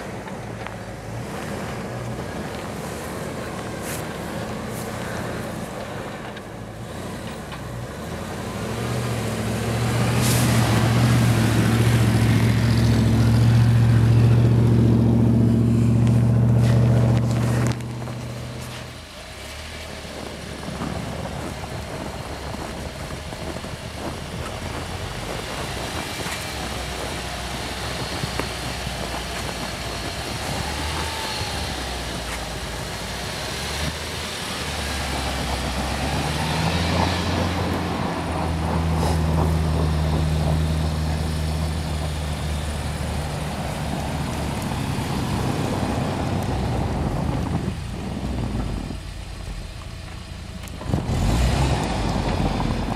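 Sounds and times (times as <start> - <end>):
suv engine working under load: 0.0 - 52.9.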